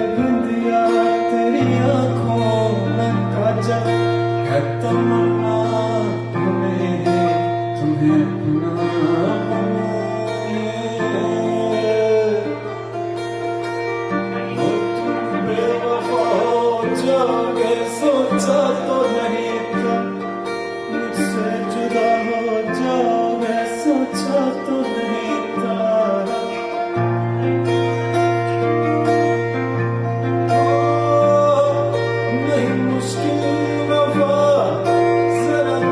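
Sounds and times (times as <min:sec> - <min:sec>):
person singing: 0:00.0 - 0:35.9
plucked strings: 0:00.0 - 0:35.9.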